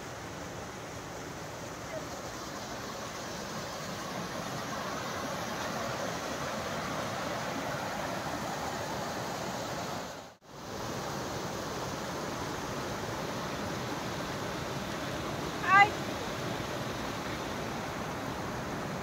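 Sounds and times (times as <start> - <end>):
stream flowing over rocks: 0.0 - 19.0.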